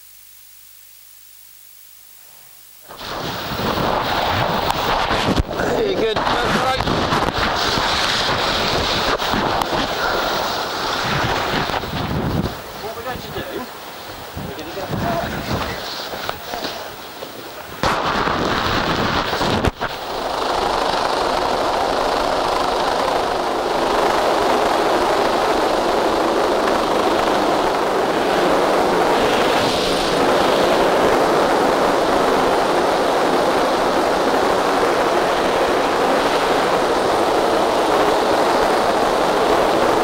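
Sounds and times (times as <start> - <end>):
helicopter rotor noise: 2.8 - 40.0
rotor downwash buffeting microphone: 2.9 - 40.0.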